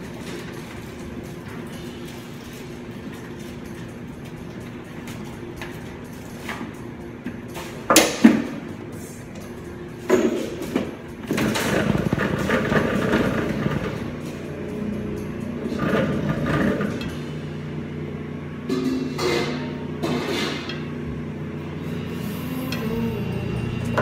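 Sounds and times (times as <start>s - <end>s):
kitchen equipment humming: 0.0s - 24.0s.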